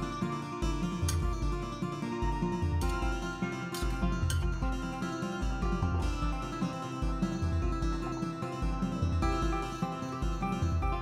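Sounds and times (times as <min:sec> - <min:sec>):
bass beat: 0:00.0 - 0:11.0.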